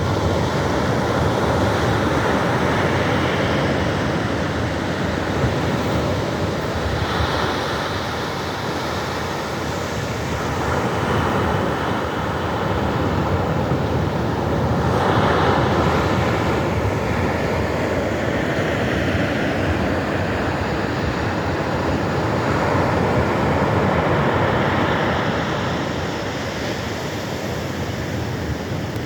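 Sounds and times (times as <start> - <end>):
ocean surf washing onto shore: 0.0 - 29.0.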